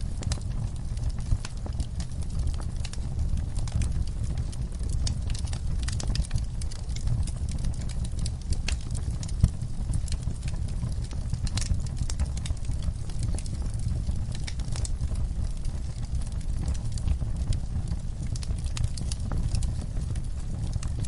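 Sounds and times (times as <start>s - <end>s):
fireplace fire crackling: 0.0s - 21.0s
low rumble of flames: 0.0s - 21.0s.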